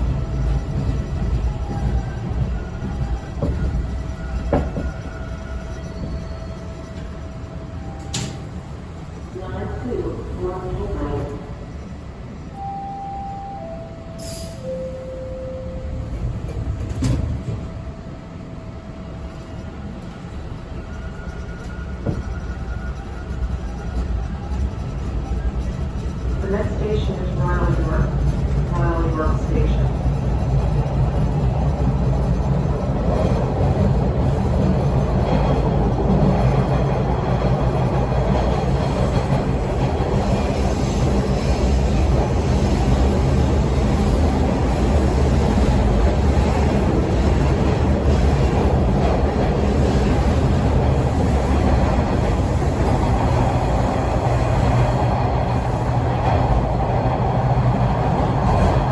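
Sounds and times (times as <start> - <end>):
subway car rumble and rattle: 0.0 - 58.9.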